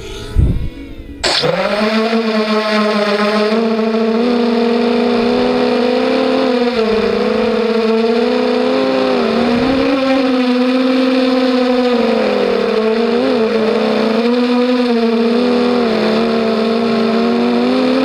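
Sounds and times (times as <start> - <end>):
quadcopter motors whining: 1.2 - 18.0.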